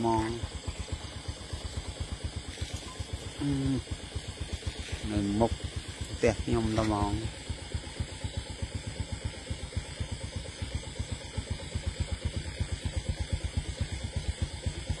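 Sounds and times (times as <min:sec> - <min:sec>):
engine idling with low thumping: 0:00.0 - 0:15.0.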